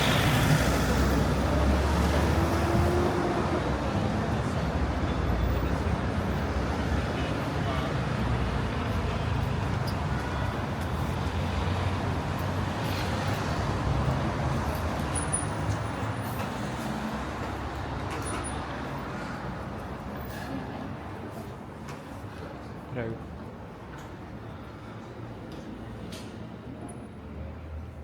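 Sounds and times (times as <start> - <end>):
cars and buses rumbling past: 0.0 - 28.0.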